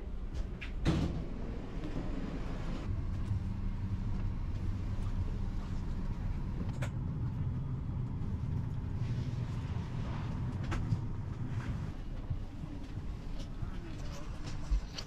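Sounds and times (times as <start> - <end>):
aircraft cabin hum: 0.1 - 14.9.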